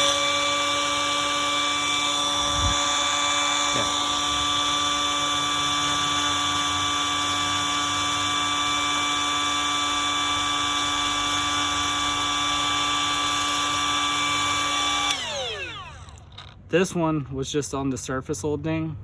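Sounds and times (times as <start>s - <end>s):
rotary tool whining: 0.0s - 16.6s.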